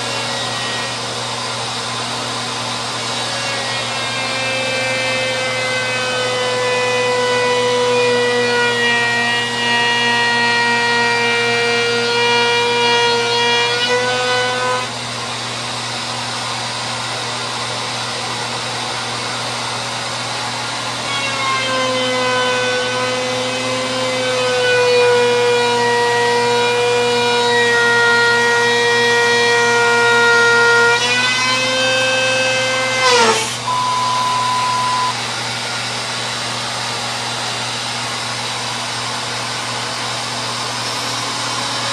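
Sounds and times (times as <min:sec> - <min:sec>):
wood router high whine: 0:00.0 - 0:41.9.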